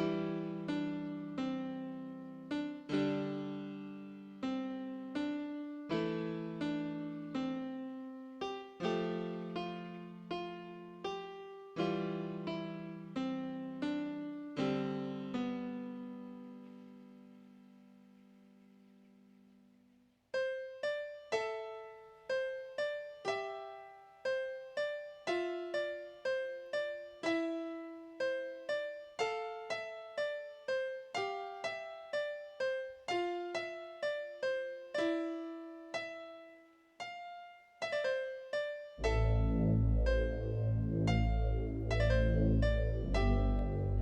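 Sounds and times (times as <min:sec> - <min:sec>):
slow gentle piano melody: 0:00.0 - 0:44.0.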